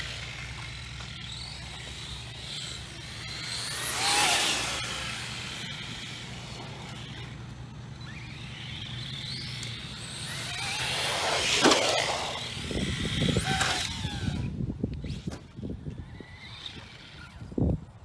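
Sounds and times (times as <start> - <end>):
electric motor whine rising: 0.0 - 15.3.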